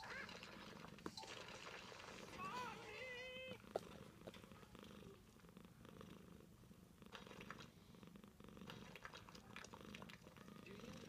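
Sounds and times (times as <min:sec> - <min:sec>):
cat purring: 0:00.1 - 0:11.0.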